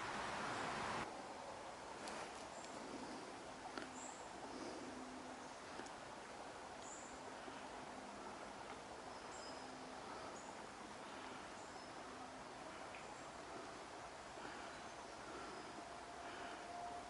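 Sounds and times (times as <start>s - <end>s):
stream hissing: 0.0s - 16.7s
faint low hum: 0.0s - 17.0s.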